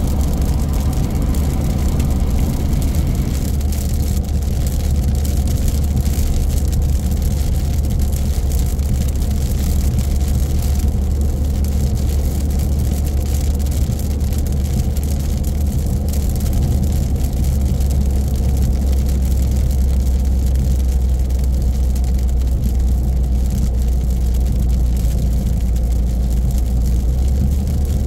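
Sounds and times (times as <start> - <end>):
engine and road noise rumble: 0.0 - 28.0
hiss of tyres and rain: 0.0 - 28.0.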